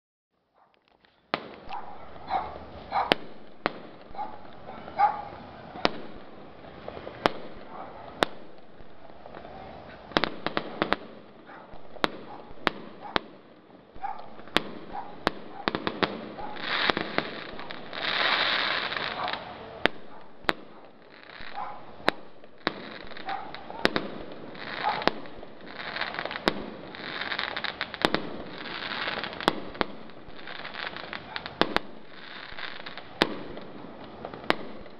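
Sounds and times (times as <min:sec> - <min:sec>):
firework crackling: 0:01.3 - 0:34.9.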